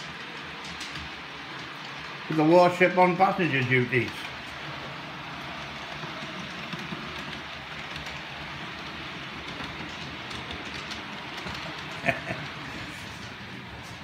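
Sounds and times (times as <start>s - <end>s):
model train whirring along track: 0.0s - 14.0s.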